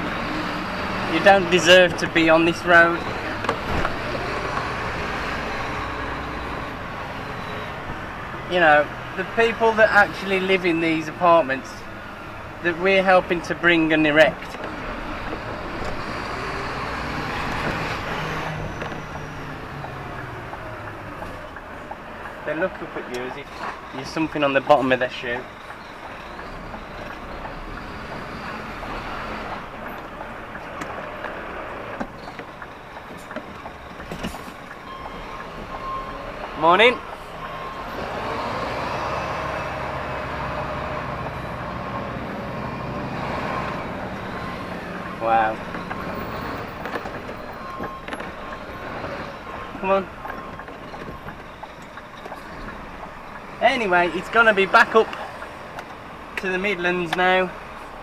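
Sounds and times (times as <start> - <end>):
lorry diesel engine running: 0.0 - 58.0
road and traffic noise: 0.0 - 58.0.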